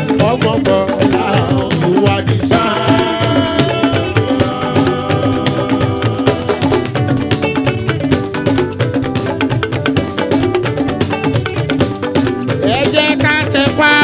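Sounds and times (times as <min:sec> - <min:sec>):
drum and percussion strikes: 0:00.0 - 0:14.0
held melodic notes: 0:00.0 - 0:14.0.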